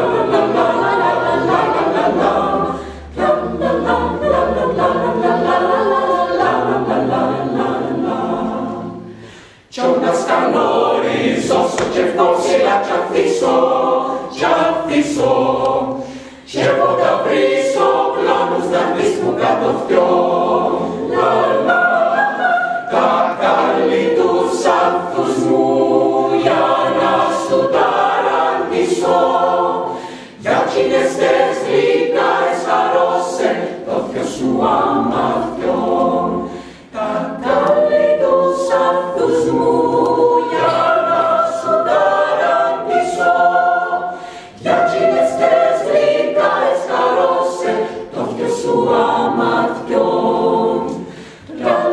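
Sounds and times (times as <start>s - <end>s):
choir singing a cappella: 0.0s - 51.9s.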